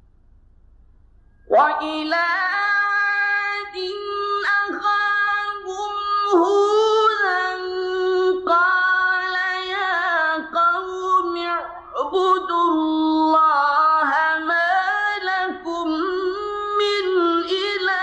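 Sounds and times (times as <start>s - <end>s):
man reciting melodically: 1.5s - 18.0s.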